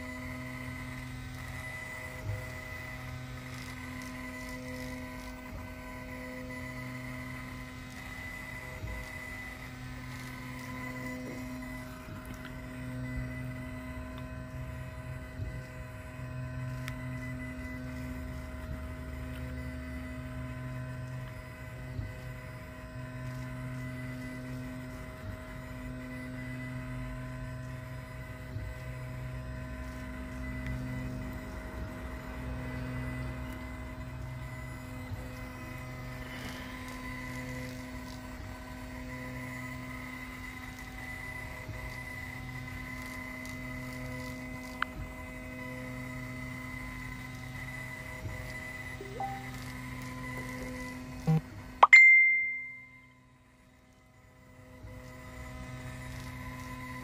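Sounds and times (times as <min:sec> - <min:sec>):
fan and stepper motors humming: 0:00.0 - 0:57.0
low hum of laser head: 0:00.0 - 0:57.0.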